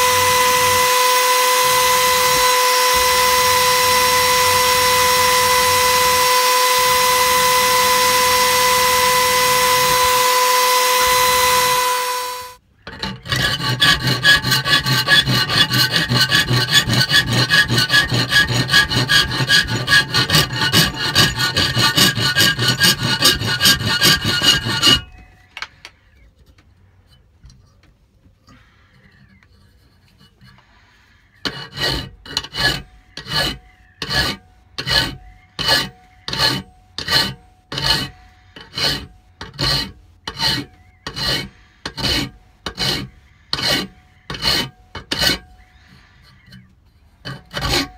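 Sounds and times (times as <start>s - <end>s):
hand file scraping: 0.0s - 25.8s, 28.5s - 47.9s.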